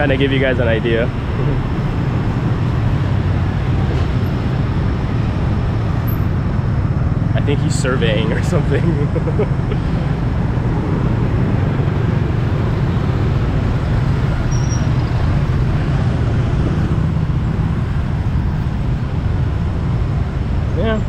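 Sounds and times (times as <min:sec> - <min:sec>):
traffic rumble of motorbikes and cars: 0:00.0 - 0:21.0.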